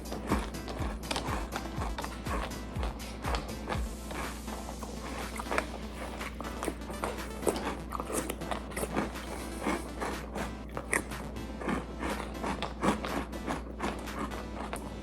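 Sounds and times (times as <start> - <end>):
crunching and chewing cereal: 0.0 - 15.0.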